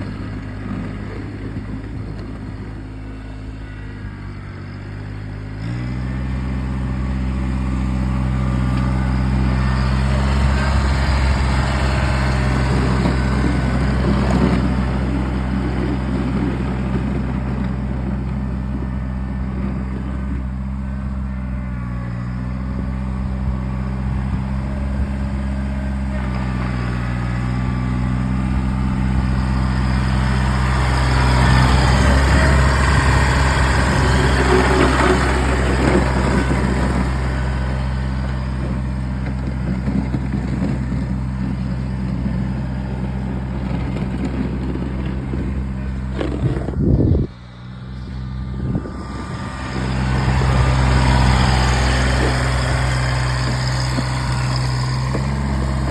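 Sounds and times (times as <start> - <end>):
diesel tractor engine running: 0.0 - 55.9.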